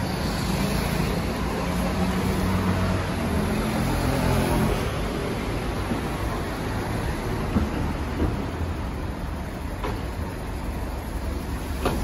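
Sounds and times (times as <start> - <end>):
road vehicles rumbling by: 0.0 - 12.0.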